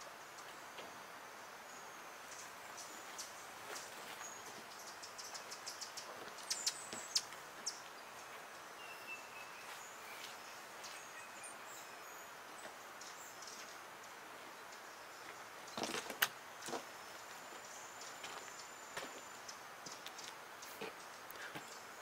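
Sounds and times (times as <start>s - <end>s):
faint background hiss: 0.0s - 22.0s
small birds chipping: 0.0s - 22.0s.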